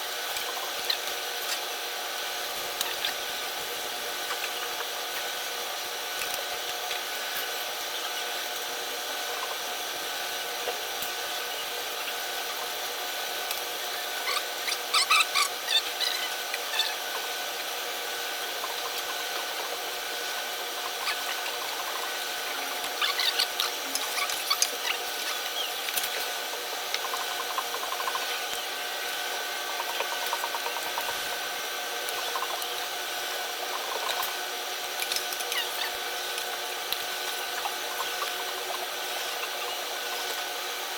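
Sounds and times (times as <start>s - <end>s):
steady background hum: 0.0s - 40.9s.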